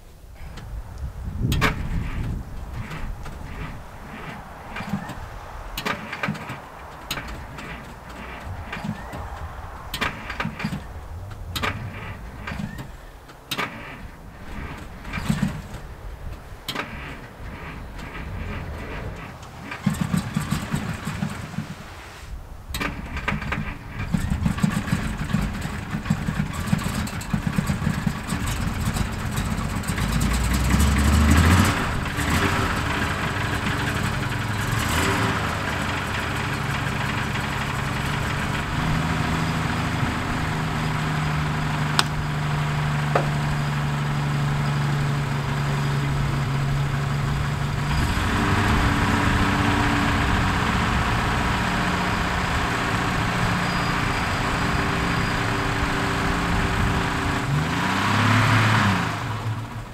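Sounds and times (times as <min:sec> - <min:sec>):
car engine idling: 0:00.0 - 0:59.9
knocks and clunks: 0:00.4 - 0:22.1, 0:22.7 - 0:49.6
car engine revving: 0:01.0 - 0:59.9
starter cranking engine: 0:01.4 - 0:21.8, 0:22.7 - 0:59.9.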